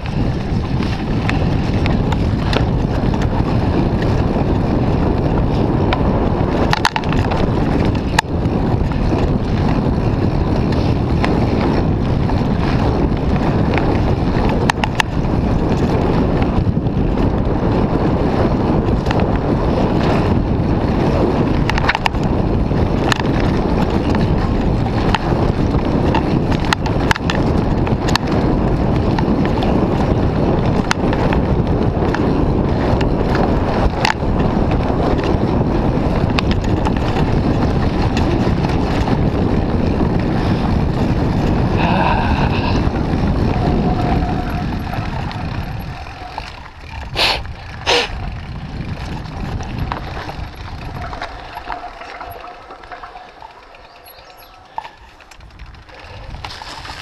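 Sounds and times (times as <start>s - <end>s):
bike rattling clicks and knocks: 0.0s - 57.0s
tyres rumbling on dirt trail: 0.0s - 57.0s
wind buffeting microphone: 0.0s - 57.0s.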